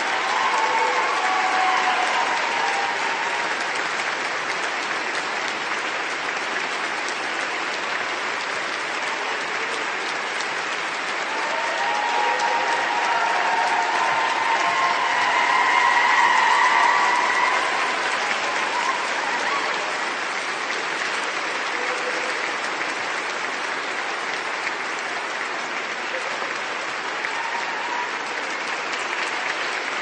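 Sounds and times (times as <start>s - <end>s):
large audience applauding: 0.0s - 30.0s.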